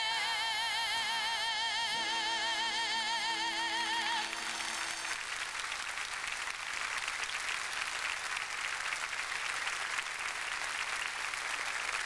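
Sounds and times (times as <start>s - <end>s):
audience applauding: 1.9s - 12.0s.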